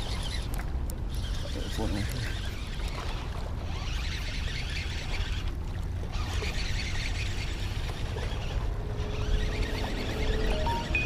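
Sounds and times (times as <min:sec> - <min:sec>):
fishing reel cranking: 0:00.0 - 0:11.0.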